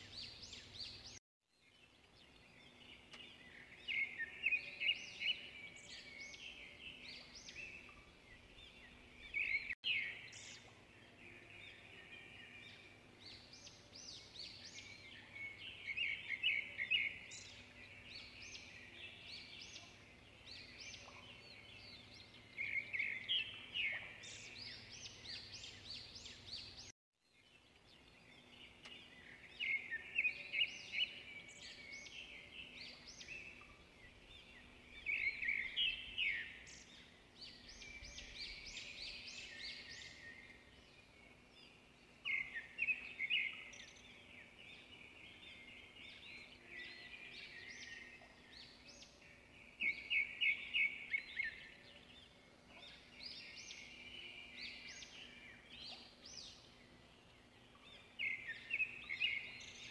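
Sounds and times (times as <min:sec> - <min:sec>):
faint background noise: 0:00.0 - 0:59.9
small birds chirping: 0:00.0 - 0:59.9.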